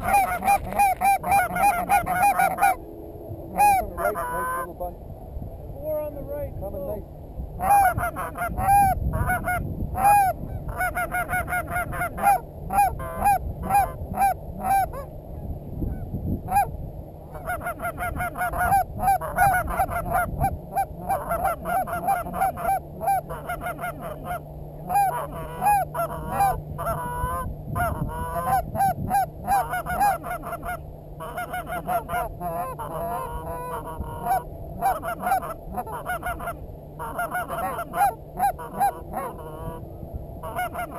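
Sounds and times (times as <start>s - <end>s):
goose honking: 0.0s - 2.9s, 3.5s - 4.8s, 7.6s - 16.7s, 17.3s - 40.9s.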